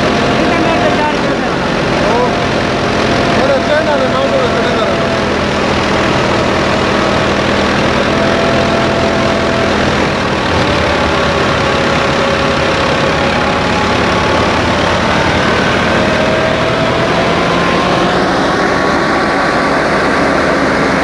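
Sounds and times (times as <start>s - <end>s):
thresher whirring: 0.0s - 21.0s
tractor diesel engine running: 0.0s - 21.0s.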